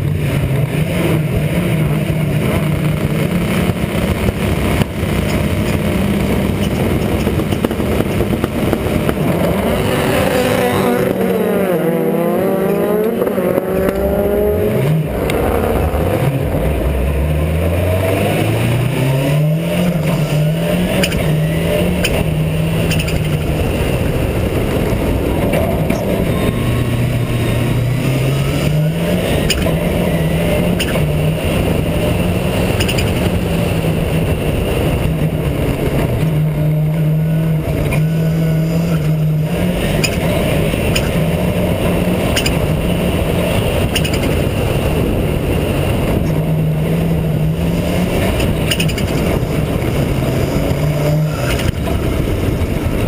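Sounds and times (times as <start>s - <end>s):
race car engine accelerating: 0.0s - 53.0s
wind noise: 0.0s - 53.0s.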